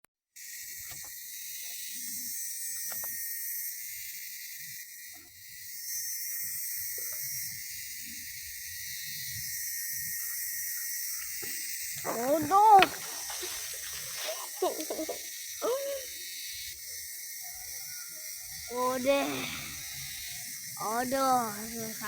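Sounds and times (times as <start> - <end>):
insects buzzing: 0.4 - 22.0.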